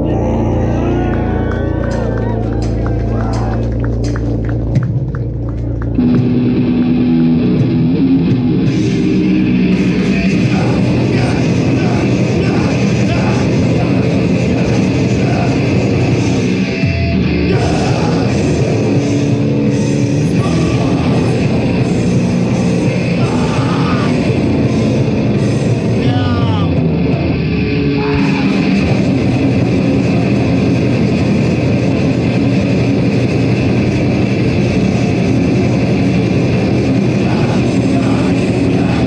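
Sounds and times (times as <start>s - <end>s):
heavy metal band playing live: 0.0s - 39.0s.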